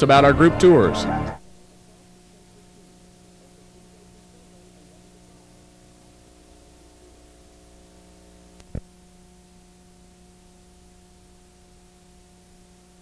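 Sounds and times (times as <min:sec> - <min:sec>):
tape hiss and electrical hum: 0:00.0 - 0:13.0.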